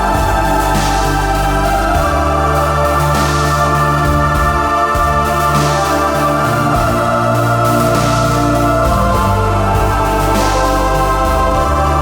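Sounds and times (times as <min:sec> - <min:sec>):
organ-like background music: 0:00.0 - 0:12.0.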